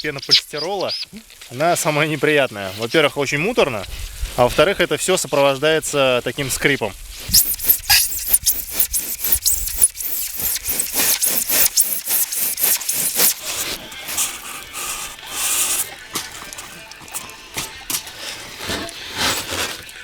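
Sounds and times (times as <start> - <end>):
saw scraping through foam board: 1.6 - 4.8, 7.1 - 20.0.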